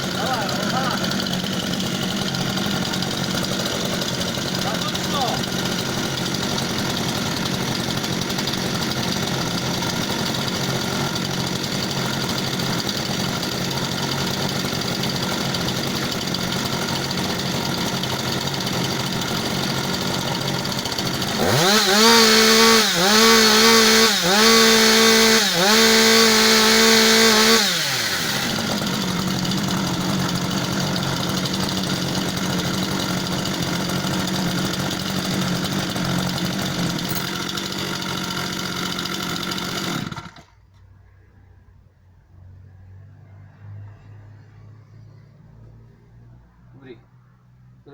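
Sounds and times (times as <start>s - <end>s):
chainsaw idling and revving: 0.0s - 40.6s.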